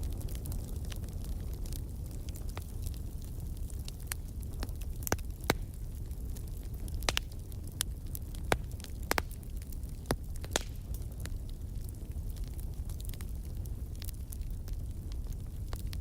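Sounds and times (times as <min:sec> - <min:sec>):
fire popping sharply: 0:00.0 - 0:16.0
low rumble of burning fire: 0:00.0 - 0:16.0.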